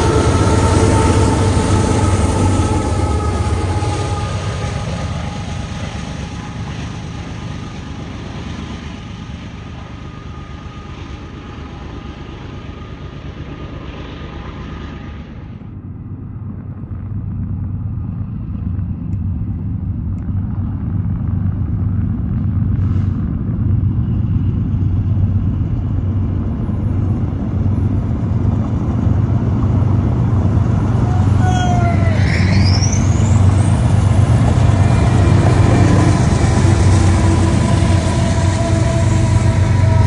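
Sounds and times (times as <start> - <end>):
diesel locomotive engine rumble: 0.0 - 40.0
rising whine: 0.0 - 40.0.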